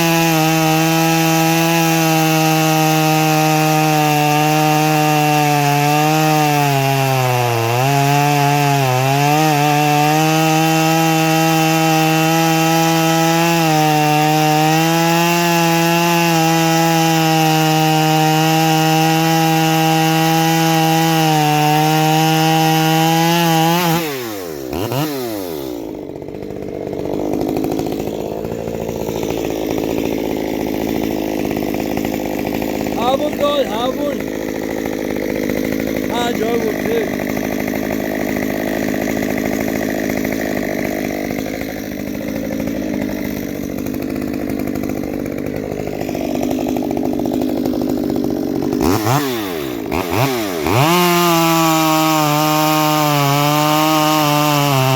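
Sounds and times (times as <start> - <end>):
chainsaw at full throttle: 0.0 - 54.9.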